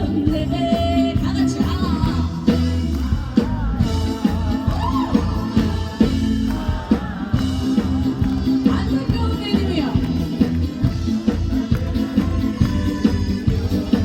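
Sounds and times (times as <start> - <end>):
live band music: 0.0 - 14.0
steady drum beat: 0.0 - 14.0
woman singing: 0.0 - 14.0.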